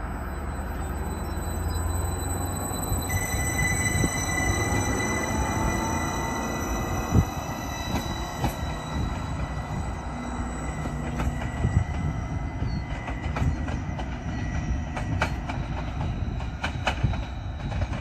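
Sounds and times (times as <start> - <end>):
train rumbling with high whine: 0.0 - 18.0
wheels clicking on track: 0.0 - 18.0.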